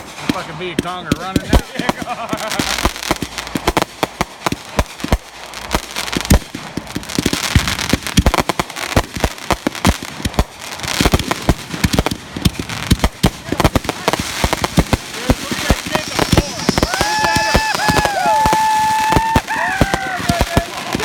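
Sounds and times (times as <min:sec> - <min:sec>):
fireworks bangs and pops: 0:00.0 - 0:21.0
fireworks crackle: 0:00.0 - 0:21.0.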